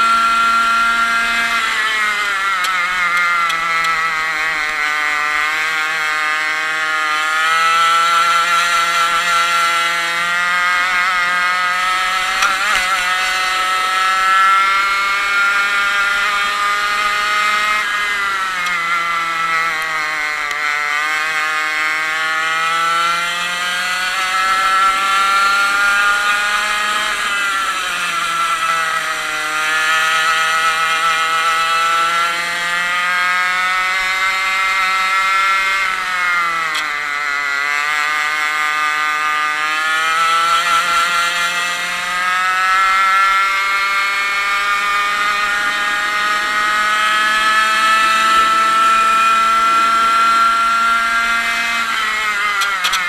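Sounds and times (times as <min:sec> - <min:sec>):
two-stroke kart engine revving: 0:00.0 - 0:53.0.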